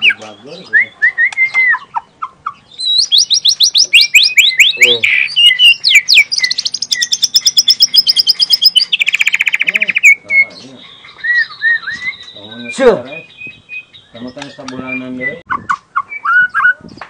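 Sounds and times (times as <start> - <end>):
songbird whistles and trills: 0.0 - 17.0.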